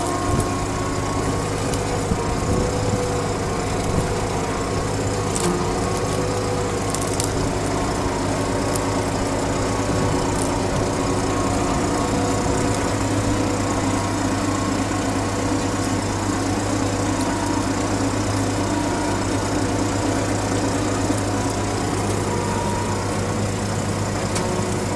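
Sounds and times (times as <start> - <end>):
tractor engine humming: 0.0 - 24.9.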